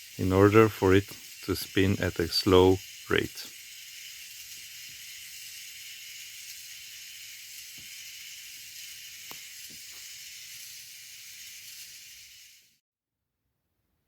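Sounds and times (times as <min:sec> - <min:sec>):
gears clicking: 0:00.0 - 0:12.8
small electric motor whirring: 0:00.0 - 0:12.8.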